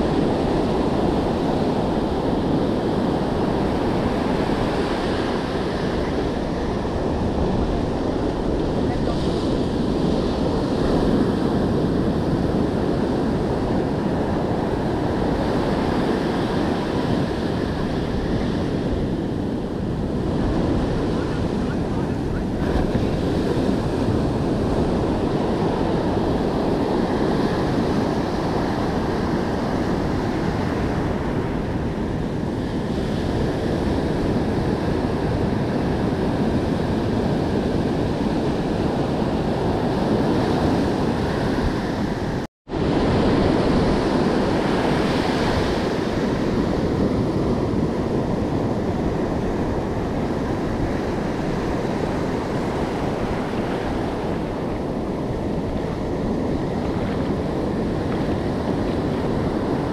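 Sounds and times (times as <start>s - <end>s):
ocean surf breaking: 0.0s - 59.9s
wind buffeting microphone: 0.0s - 59.9s.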